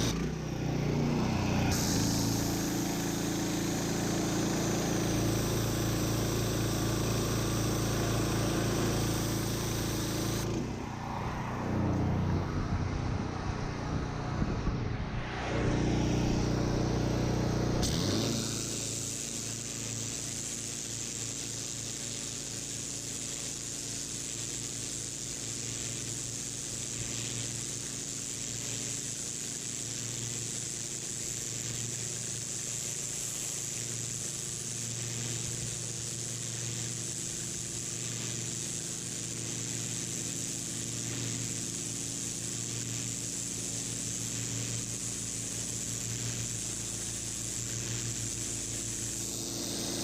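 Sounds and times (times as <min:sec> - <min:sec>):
high-pressure water spray hiss: 0:00.0 - 0:11.2, 0:16.8 - 0:50.0
pressure washer engine running: 0:00.0 - 0:50.0.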